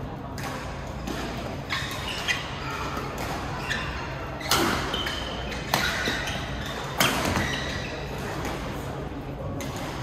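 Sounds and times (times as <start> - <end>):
racket hitting shuttlecock: 0.3 - 10.0
shoes squeaking on court: 0.8 - 8.9.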